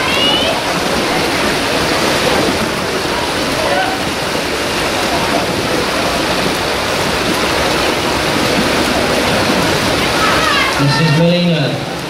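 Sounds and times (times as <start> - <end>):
swimmers splashing: 0.0 - 12.0.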